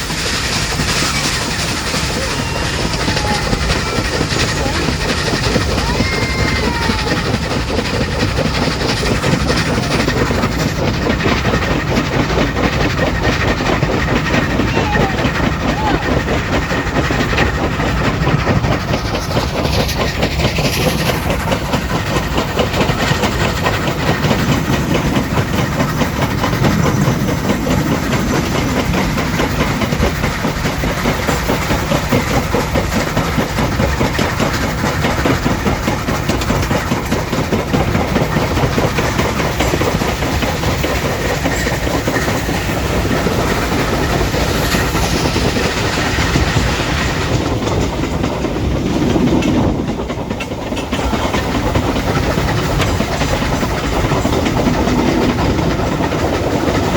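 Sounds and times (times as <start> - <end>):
train rumbling: 0.0 - 56.9
wheels clattering on rails: 0.0 - 56.9.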